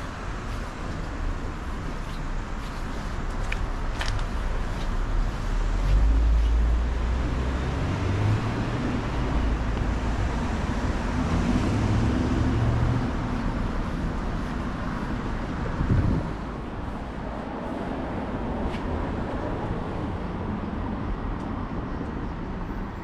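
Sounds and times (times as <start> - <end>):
vehicles passing with tyre noise: 0.0 - 23.0.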